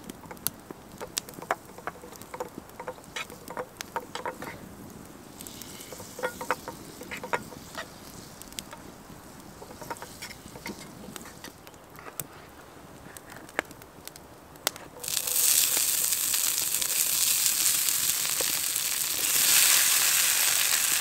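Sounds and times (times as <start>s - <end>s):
campfire crackling and popping: 0.0s - 21.0s
soft hiss: 0.0s - 21.0s.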